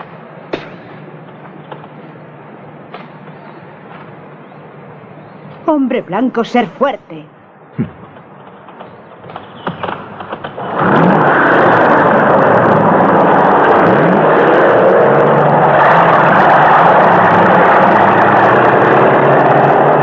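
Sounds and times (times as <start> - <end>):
vehicle engine whirring: 0.0 - 20.0.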